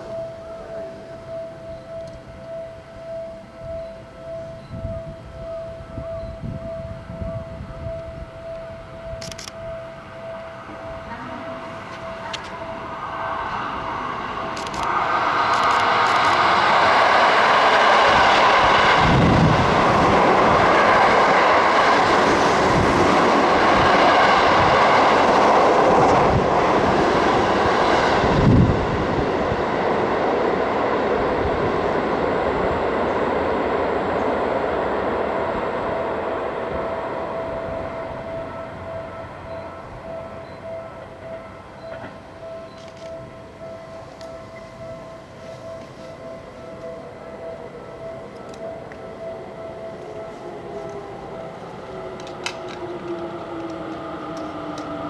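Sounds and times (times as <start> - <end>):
steady high tone: 0.0 - 55.0
train wheels rushing on rail: 3.7 - 55.0.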